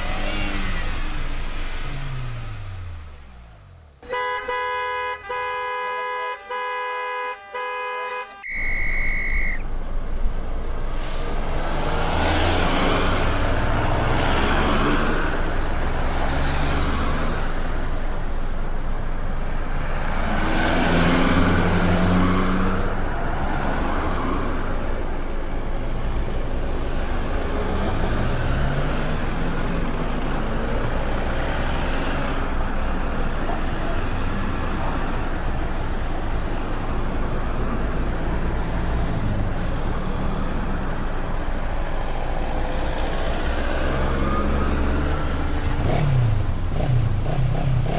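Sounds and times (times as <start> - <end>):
street traffic passing: 0.0 - 47.9.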